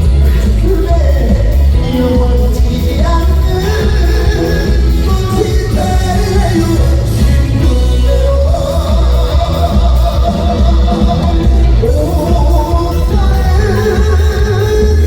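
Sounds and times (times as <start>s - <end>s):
live band music through pa: 0.0s - 15.0s.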